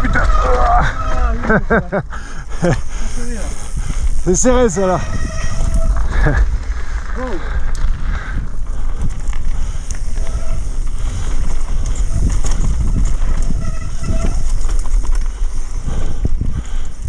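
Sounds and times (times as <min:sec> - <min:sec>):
bike rattling over gravel: 0:00.0 - 0:17.0
wind buffeting microphone: 0:00.0 - 0:17.0.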